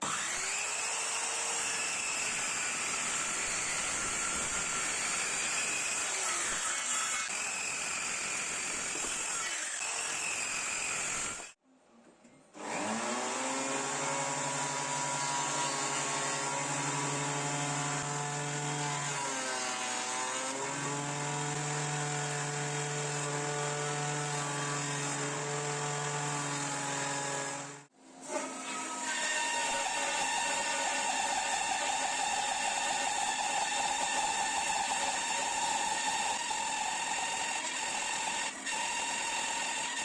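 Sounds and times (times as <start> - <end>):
power tool motor running: 0.0 - 11.6, 12.6 - 40.0.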